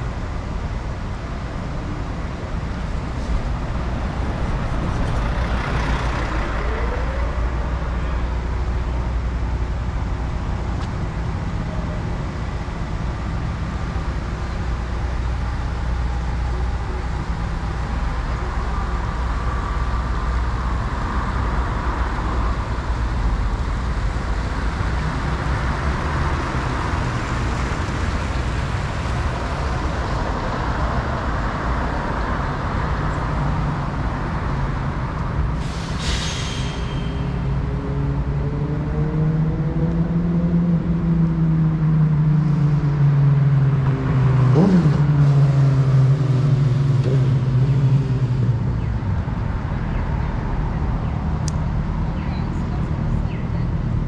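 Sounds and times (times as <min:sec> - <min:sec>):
traffic engines and tyre noise: 0:00.0 - 0:54.0.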